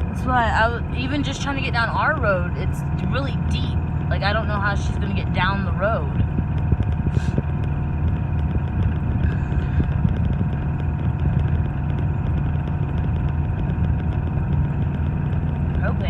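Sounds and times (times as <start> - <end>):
car engine and tyres droning: 0.0 - 16.0.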